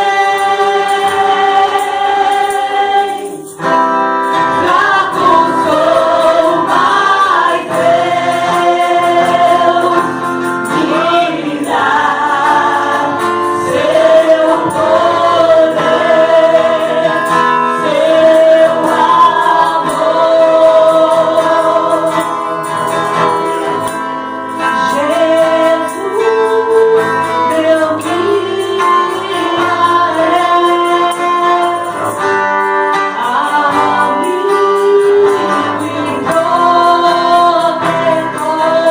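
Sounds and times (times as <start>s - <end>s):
choir singing gospel song: 0.0s - 38.9s.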